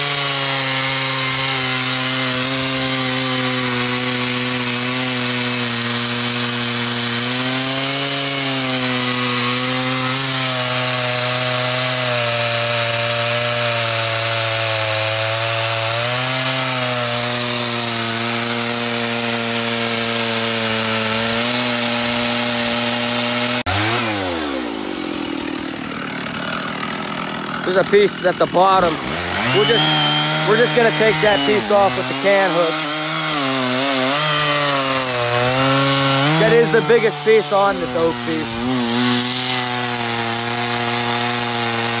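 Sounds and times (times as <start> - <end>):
chainsaw cutting log: 0.0 - 42.0.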